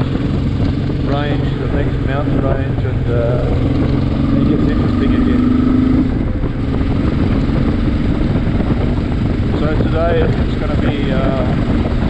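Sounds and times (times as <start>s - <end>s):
motorcycle engine running: 0.0s - 12.0s
rushing wind: 0.0s - 12.0s.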